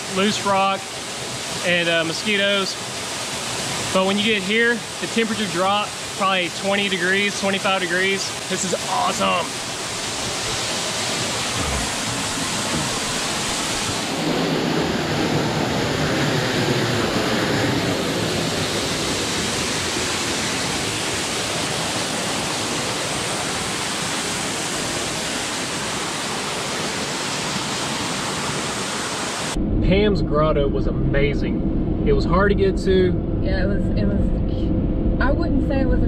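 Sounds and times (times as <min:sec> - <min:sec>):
waterfall splashing into pool: 0:00.0 - 0:29.6.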